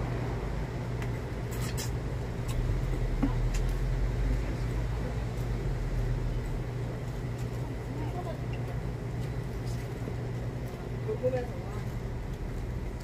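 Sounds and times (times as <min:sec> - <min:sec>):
city street traffic hum: 0:00.0 - 0:13.0.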